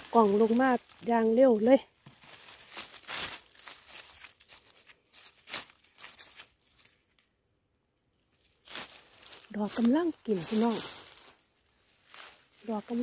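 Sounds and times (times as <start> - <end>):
dry leaves rustling and crunching: 0.0 - 7.2, 8.2 - 13.0.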